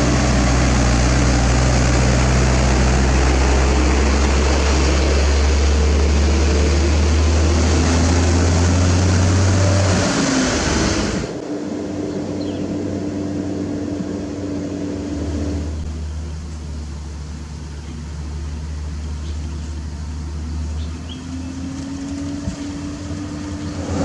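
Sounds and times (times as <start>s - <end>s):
diesel truck engine drone: 0.0s - 24.0s
tyre and road noise: 0.0s - 24.0s.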